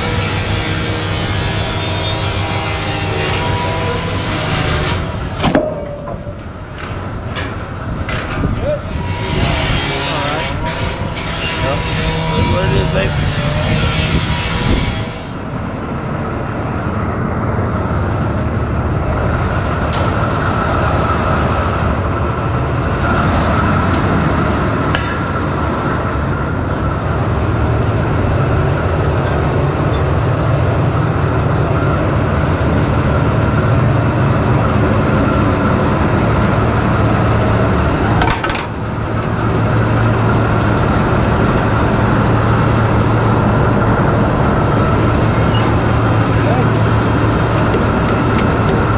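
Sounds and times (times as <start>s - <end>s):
pile-driving rig engine drone: 0.0s - 48.9s.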